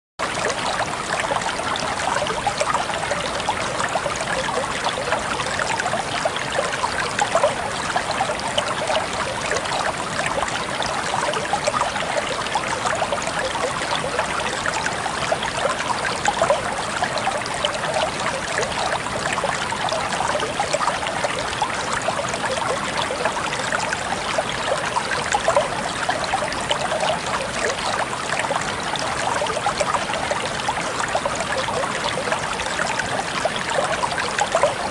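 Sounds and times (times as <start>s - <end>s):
stream trickling and gurgling: 0.2s - 34.9s.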